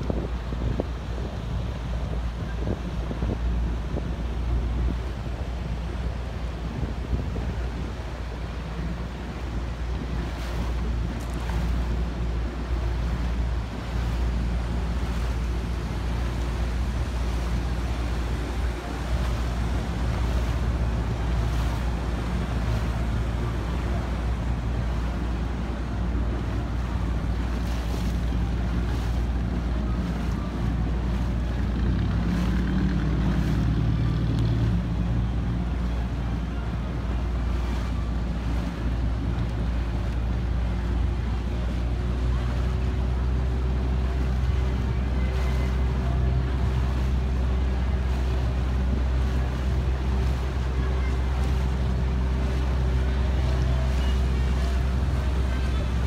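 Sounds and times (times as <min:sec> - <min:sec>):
boat engine running: 0:00.0 - 0:56.0
water rushing past hull: 0:00.0 - 0:56.0
wind on microphone: 0:00.0 - 0:56.0.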